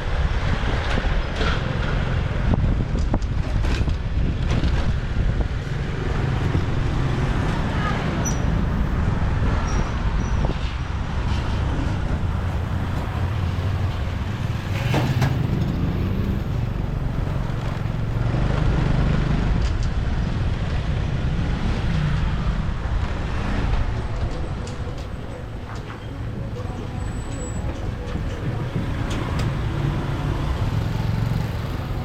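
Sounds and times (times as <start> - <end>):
road and traffic noise: 0.0 - 32.0.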